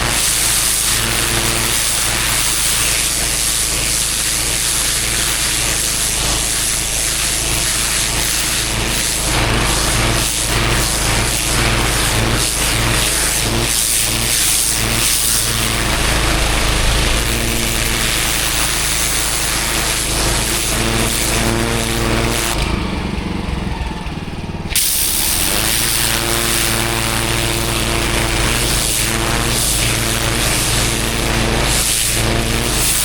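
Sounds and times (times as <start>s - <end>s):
water jet spraying on paving: 0.0s - 22.8s, 24.7s - 33.0s
pressure washer engine running: 0.0s - 33.0s.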